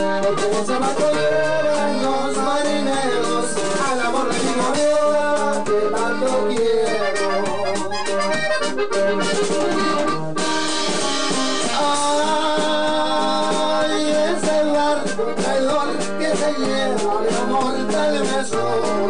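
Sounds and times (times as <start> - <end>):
accordion melody: 0.0 - 19.0
electric bass: 0.0 - 19.0
strummed acoustic guitar: 0.0 - 19.0.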